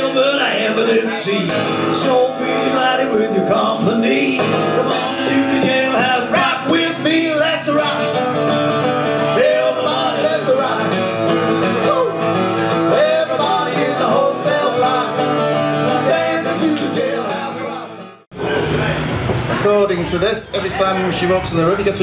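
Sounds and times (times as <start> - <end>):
strummed acoustic guitar: 0.0 - 19.7.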